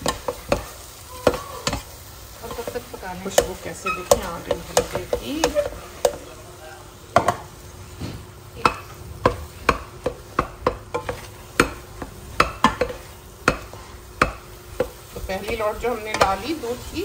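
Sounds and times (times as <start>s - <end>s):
spatula scraping pot: 0.0s - 6.3s, 8.6s - 17.0s.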